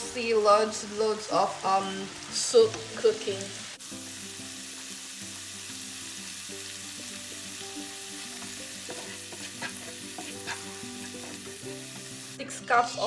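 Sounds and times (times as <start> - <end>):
food sizzling in a pan: 0.0 - 13.0
soft background music: 0.0 - 13.0.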